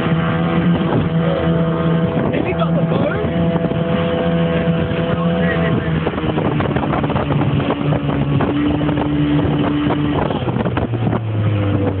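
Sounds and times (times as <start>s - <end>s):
speedboat engine running: 0.0s - 12.0s
wind and water noise: 0.0s - 12.0s.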